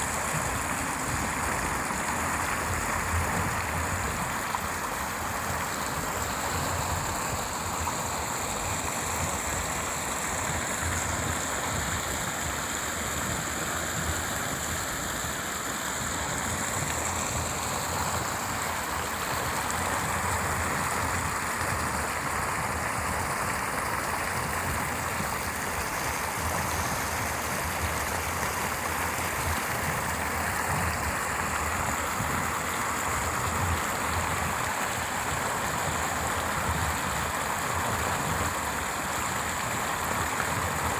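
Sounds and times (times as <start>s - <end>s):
stream flowing water: 0.0s - 40.9s.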